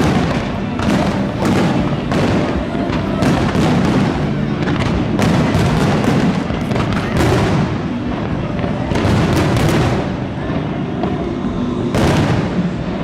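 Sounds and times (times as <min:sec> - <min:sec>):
fireworks booming: 0:00.0 - 0:13.0
fireworks crackling and popping: 0:00.0 - 0:13.0.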